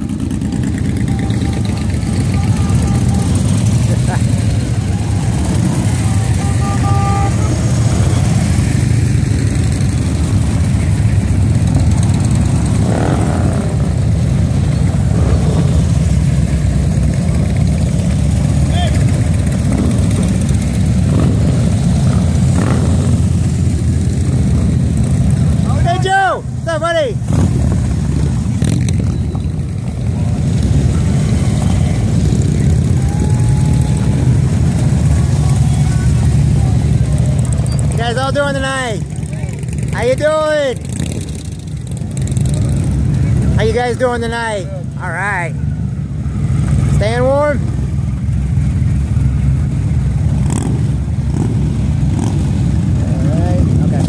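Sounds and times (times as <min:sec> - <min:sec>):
motorcycles rumbling past: 0:00.0 - 0:26.1, 0:27.2 - 0:54.0.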